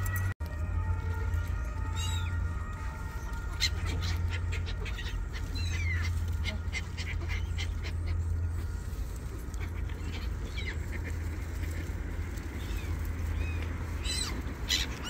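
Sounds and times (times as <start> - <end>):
steady low hum: 0.0 - 15.0
birds calling: 1.2 - 15.0.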